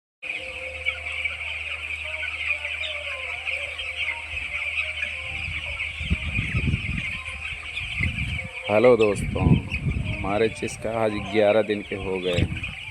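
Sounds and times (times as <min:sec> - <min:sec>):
chicks peeping: 0:00.2 - 0:12.9.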